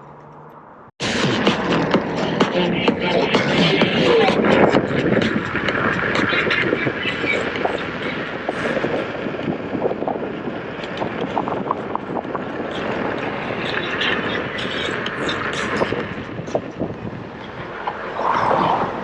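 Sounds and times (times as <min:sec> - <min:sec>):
wind and road noise rushing: 0:00.0 - 0:19.0.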